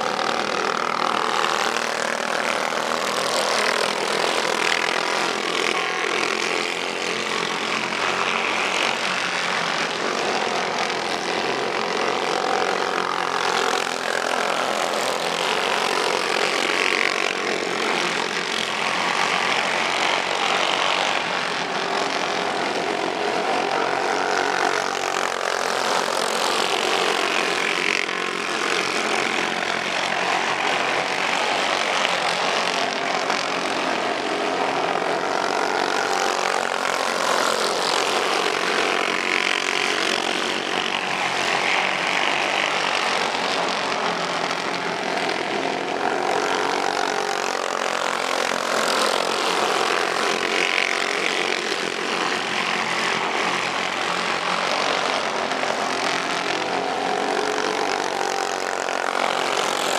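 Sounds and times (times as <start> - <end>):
go-kart engines buzzing: 0.0 - 59.9.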